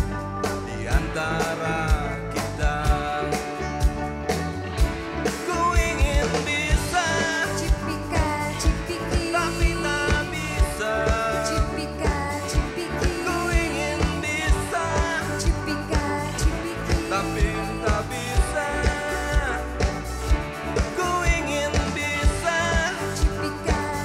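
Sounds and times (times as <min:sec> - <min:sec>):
drums beating: 0:00.0 - 0:24.0
electric bass: 0:00.0 - 0:24.0
keyboard: 0:00.0 - 0:24.0
lead vocals singing: 0:00.5 - 0:03.6, 0:05.3 - 0:24.0.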